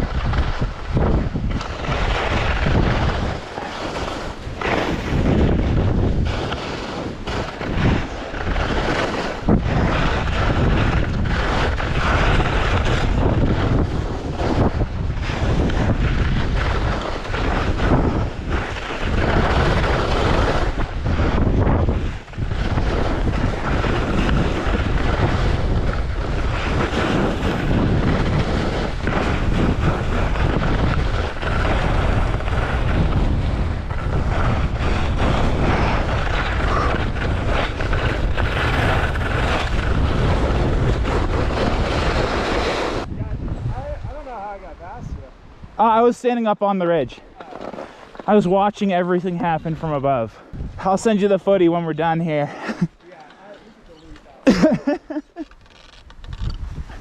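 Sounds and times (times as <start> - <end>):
wind buffeting microphone: 0.0 - 55.4, 56.0 - 57.0.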